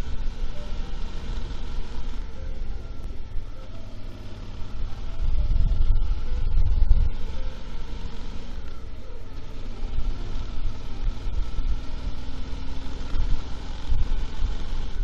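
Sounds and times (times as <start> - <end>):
wind rumble on microphone: 0.0 - 3.8, 4.5 - 15.0
motorcycle engine running: 0.0 - 15.0.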